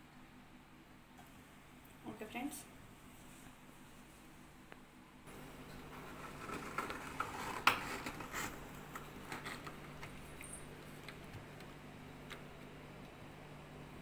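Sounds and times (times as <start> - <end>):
freezer hum: 0.0 - 14.0.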